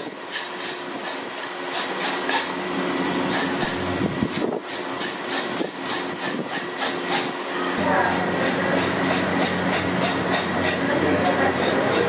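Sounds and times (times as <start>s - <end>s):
fish scaler scraping scales: 0.0s - 2.6s, 3.2s - 7.4s, 8.4s - 12.0s
steady background hum: 0.0s - 12.0s.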